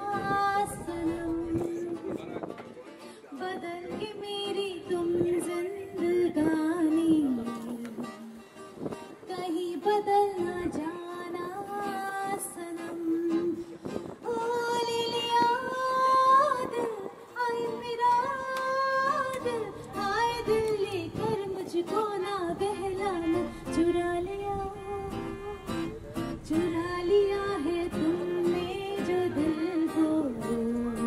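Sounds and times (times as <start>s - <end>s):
acoustic guitar: 0.0s - 31.0s
violin: 0.0s - 31.0s.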